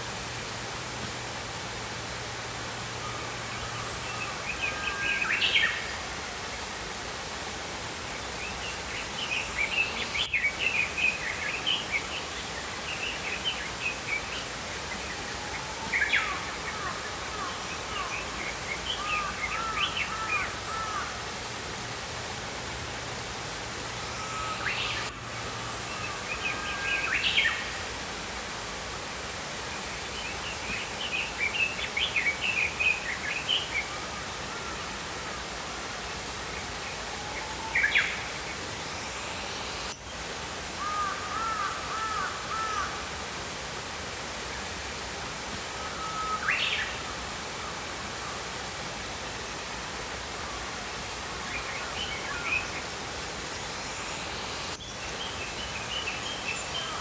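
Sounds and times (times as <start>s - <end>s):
flowing stream: 0.0s - 57.0s.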